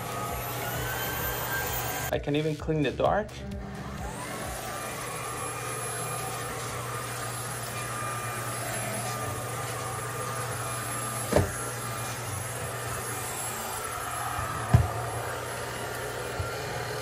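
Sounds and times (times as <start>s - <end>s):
vacuum cleaner motor whine: 0.0s - 2.1s, 3.7s - 17.0s.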